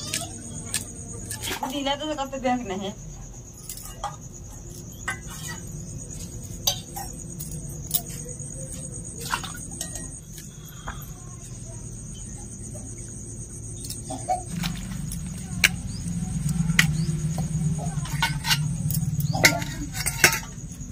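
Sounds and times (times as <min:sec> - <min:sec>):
crickets chirping: 0:00.0 - 0:20.9.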